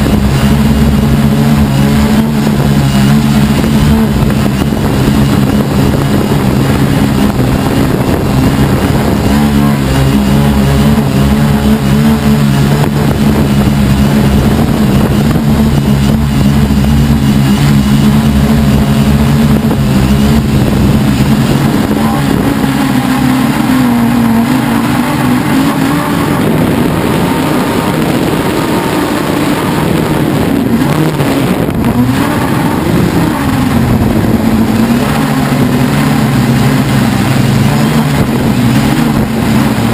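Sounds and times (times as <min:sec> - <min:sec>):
quadcopter motors and propellers humming: 0:00.0 - 0:39.9.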